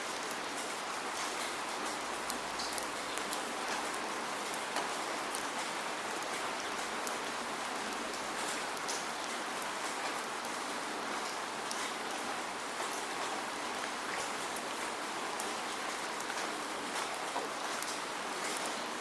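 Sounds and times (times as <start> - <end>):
raindrops ticking on a surface: 0.0 - 19.0
steady rain hiss: 0.0 - 19.0.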